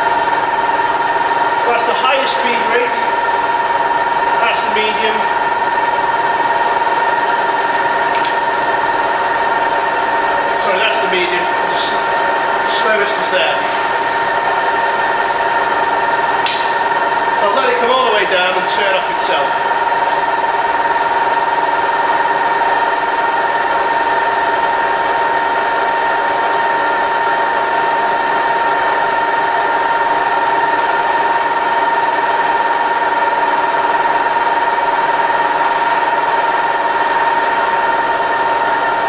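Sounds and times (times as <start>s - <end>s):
milling machine whining: 0.0s - 39.0s.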